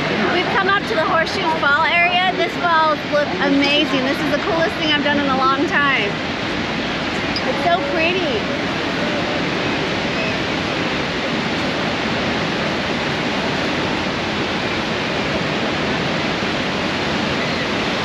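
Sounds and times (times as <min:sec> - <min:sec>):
churning water: 0:00.0 - 0:18.0
waterfall roaring: 0:00.0 - 0:18.0.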